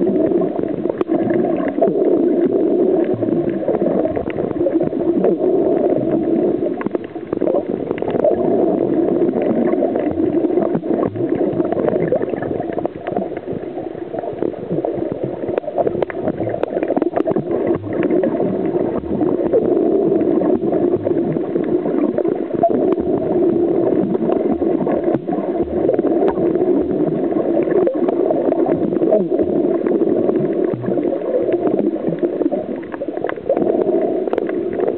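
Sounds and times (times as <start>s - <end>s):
faint underwater clicks: 0.0s - 34.9s
underwater rushing water: 0.0s - 34.9s.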